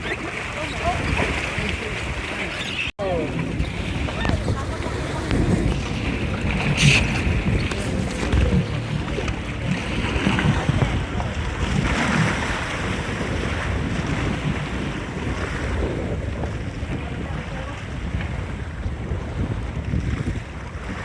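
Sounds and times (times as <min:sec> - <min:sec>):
jet ski engine: 0:00.0 - 0:21.0
water rushing: 0:00.0 - 0:21.0
wind buffeting microphone: 0:00.0 - 0:21.0.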